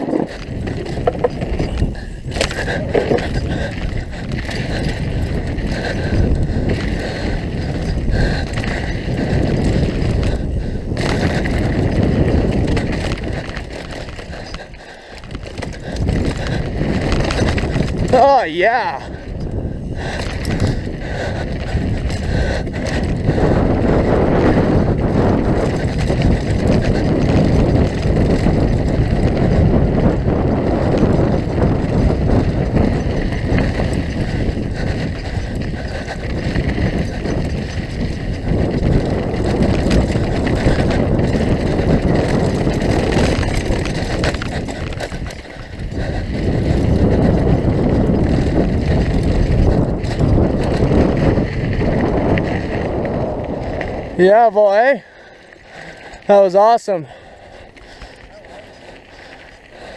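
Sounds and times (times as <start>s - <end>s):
tyre noise on dirt: 0.0s - 54.6s
bike rattling over bumps: 0.0s - 59.9s
wind rushing over microphone: 0.0s - 59.9s.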